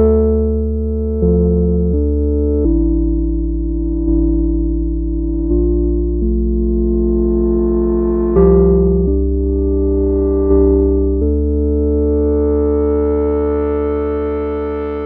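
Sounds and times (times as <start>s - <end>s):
ambient synthesizer chords: 0.0s - 15.0s
deep synthesizer bass tones: 0.0s - 15.0s.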